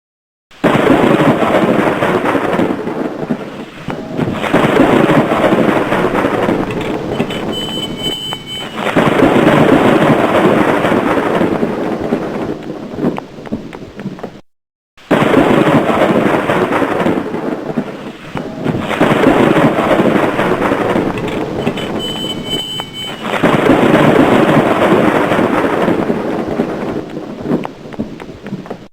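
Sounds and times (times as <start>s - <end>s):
rolls of thunder: 0.6s - 13.2s, 15.1s - 27.6s
rain hiss: 0.6s - 14.1s, 15.1s - 28.8s.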